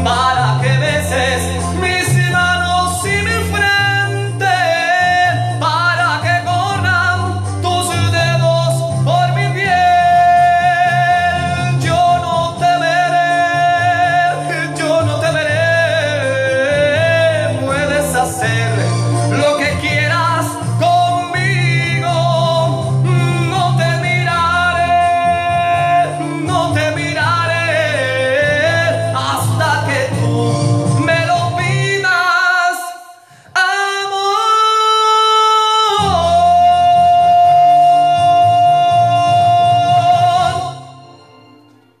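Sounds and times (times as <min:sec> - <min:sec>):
man singing a ballad: 0:00.0 - 0:41.8
musical accompaniment: 0:00.0 - 0:42.0.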